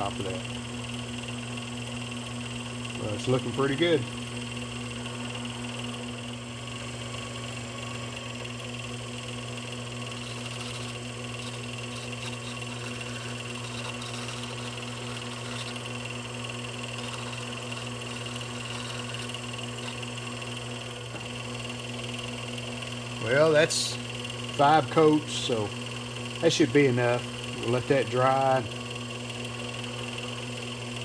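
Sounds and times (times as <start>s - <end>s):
lathe motor humming: 0.0s - 31.0s.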